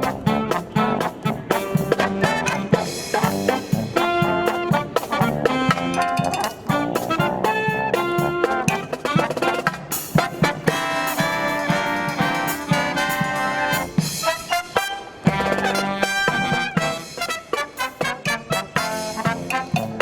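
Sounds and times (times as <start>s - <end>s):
brass instruments sustained notes: 0.0s - 20.0s.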